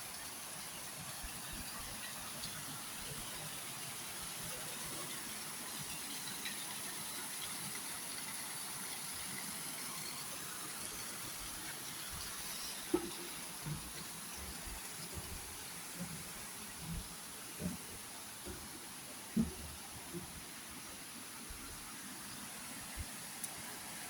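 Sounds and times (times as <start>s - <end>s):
constant high hiss: 0.0s - 24.0s
flowing water: 0.0s - 24.0s.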